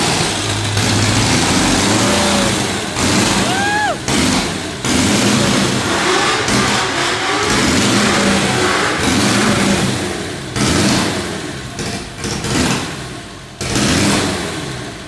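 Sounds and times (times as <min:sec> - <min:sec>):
lawnmower engine revving: 0:00.0 - 0:13.0.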